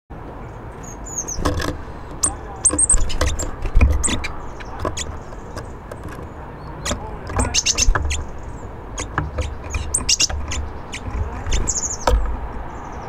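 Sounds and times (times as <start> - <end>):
small birds chirping: 0.2 - 13.0
dull thumps: 1.3 - 12.7.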